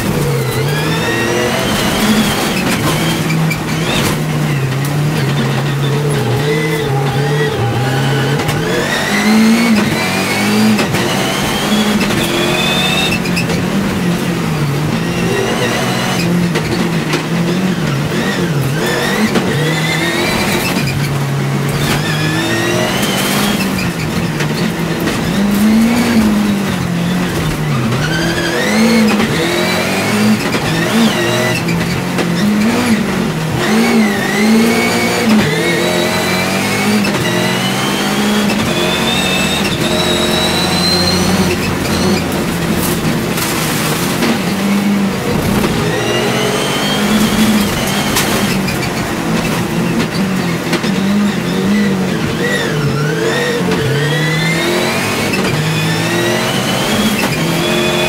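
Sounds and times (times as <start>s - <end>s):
race car engine revving: 0.0s - 58.0s
tyre and gravel noise: 0.0s - 58.0s.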